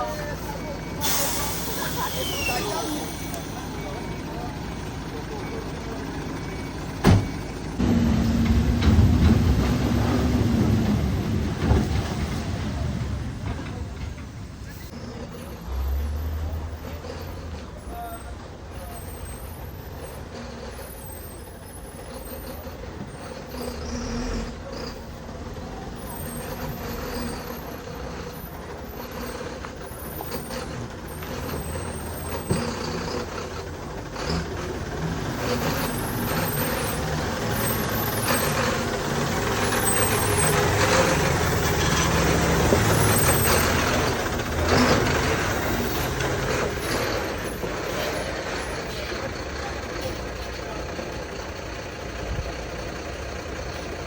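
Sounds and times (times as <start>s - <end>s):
road and tyre noise: 0.0s - 54.0s
vehicle engine rumble: 0.0s - 54.0s.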